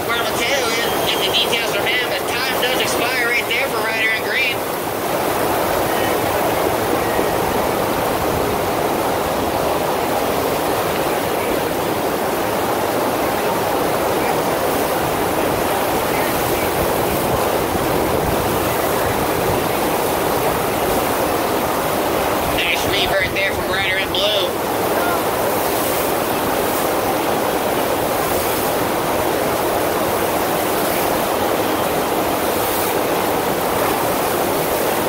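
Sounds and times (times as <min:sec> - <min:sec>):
rushing water: 0:00.0 - 0:35.0.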